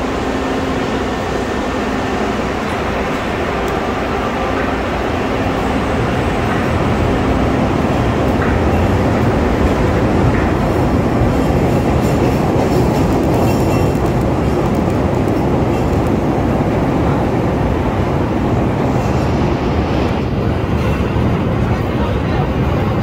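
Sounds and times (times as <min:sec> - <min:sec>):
train wheels on rail: 0:00.0 - 0:23.0.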